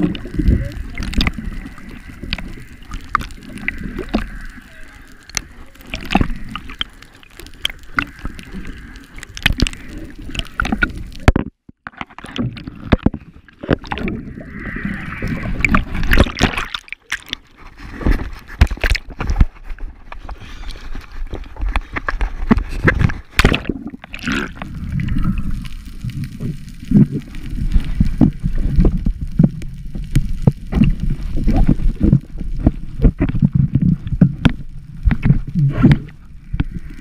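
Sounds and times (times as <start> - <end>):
water sloshing and gurgling: 0.0 - 37.0.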